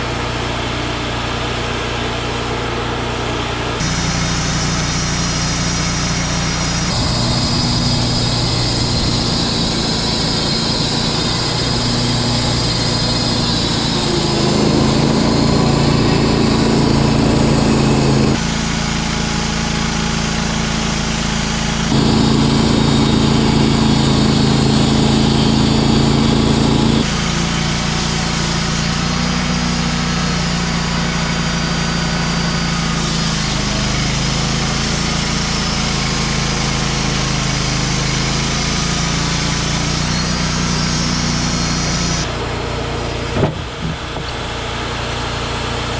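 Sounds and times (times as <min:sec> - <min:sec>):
sawmill engine running: 0:03.8 - 0:45.9.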